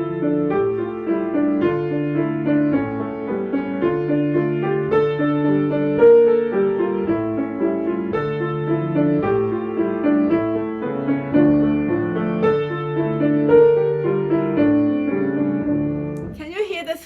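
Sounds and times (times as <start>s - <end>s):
piano playing rhythmic lines: 0.0s - 17.0s.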